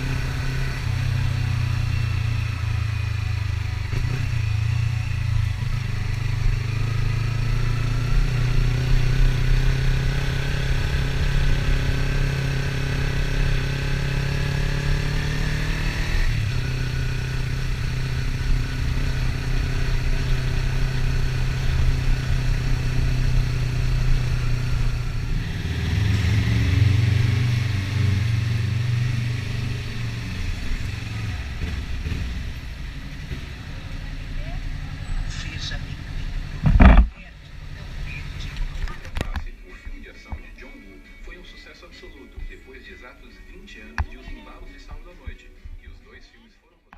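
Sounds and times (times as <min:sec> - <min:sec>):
motorcycle engine revving: 0:00.0 - 0:39.3.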